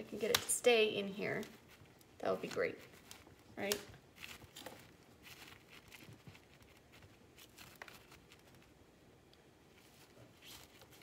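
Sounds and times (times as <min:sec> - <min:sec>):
rustling of potting mix: 0:00.0 - 0:11.0.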